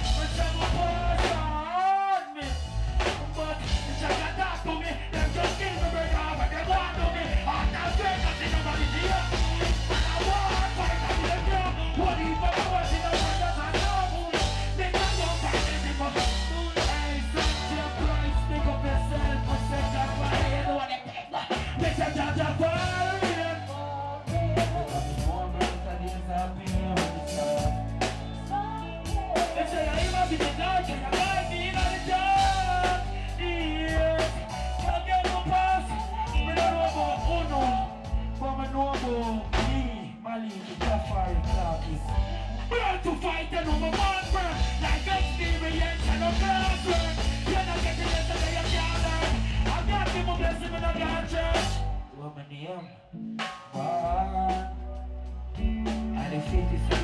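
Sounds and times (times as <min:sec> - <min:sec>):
heavy bass line: 0:00.0 - 0:01.8, 0:02.4 - 0:40.1, 0:40.7 - 0:52.1, 0:53.5 - 0:57.0
drum kit: 0:00.0 - 0:52.0, 0:53.2 - 0:57.0
man singing: 0:00.0 - 0:57.0.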